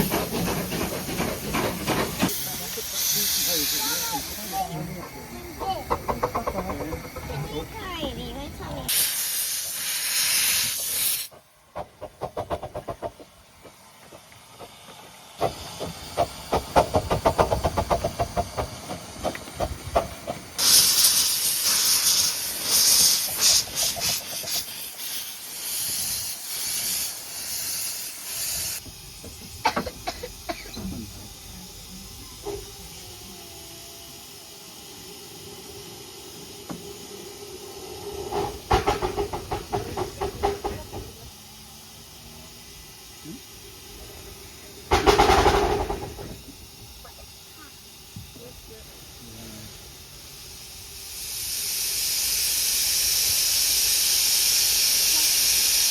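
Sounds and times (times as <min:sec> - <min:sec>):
loud steam hiss: 0:00.0 - 0:55.9
steam locomotive exhaust chuffs: 0:00.0 - 0:55.9.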